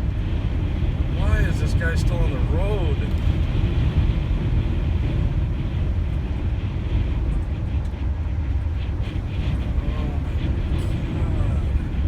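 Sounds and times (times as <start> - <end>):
road and wind noise: 0.0 - 12.0
vehicle rumbling at highway speed: 0.0 - 12.0.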